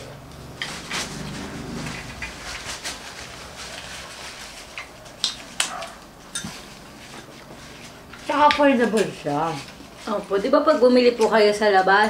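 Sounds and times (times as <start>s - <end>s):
people chewing: 0.5s - 11.4s.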